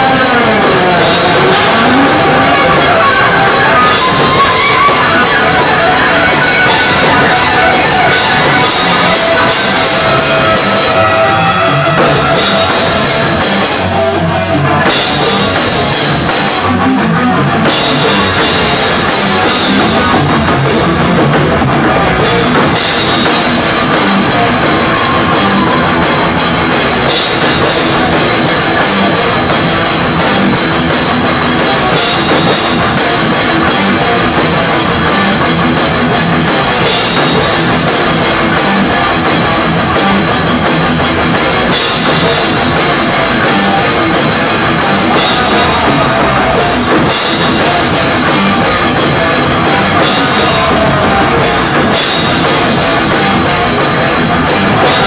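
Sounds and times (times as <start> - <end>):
drums and cymbals: 0.0 - 55.0
thrash metal band playing: 0.0 - 55.0.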